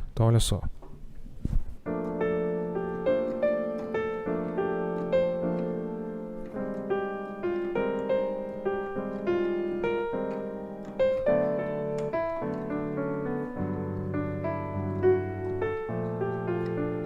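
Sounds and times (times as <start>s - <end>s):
solo piano bossa nova: 1.7s - 17.0s.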